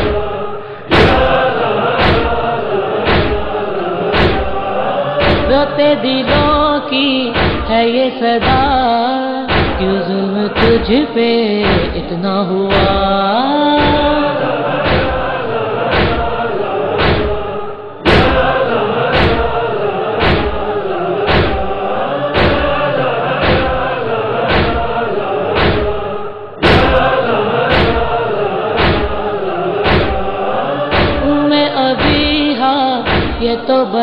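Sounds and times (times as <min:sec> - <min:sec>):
heavy chest-beating rhythm: 0:00.0 - 0:33.8
voices chanting a lament: 0:00.0 - 0:34.0.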